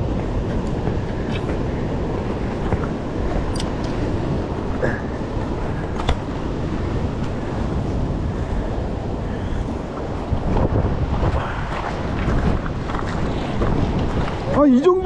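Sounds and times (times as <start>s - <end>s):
surf washing against rocks: 0.0s - 15.0s
wind rumbling on microphone: 0.0s - 15.0s.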